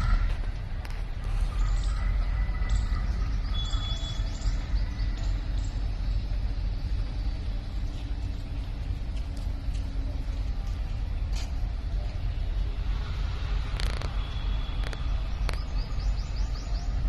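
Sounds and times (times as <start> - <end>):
diesel locomotive engines rumbling: 0.0 - 17.0
faint steady drone: 0.0 - 17.0.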